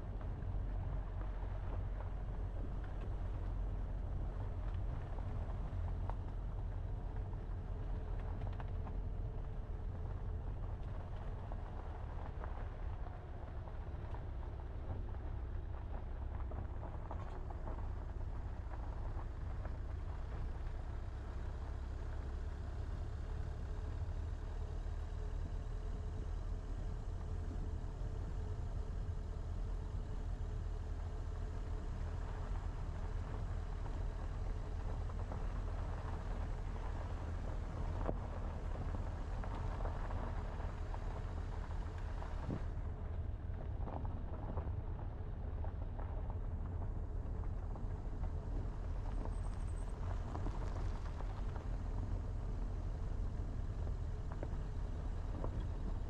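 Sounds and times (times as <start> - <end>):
car driving on dirt road: 0.0 - 56.0.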